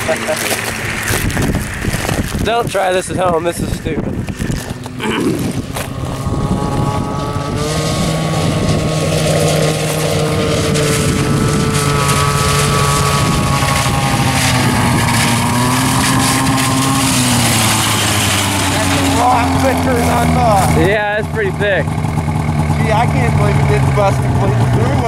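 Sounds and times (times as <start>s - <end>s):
snowmobile engine running: 0.0s - 25.0s.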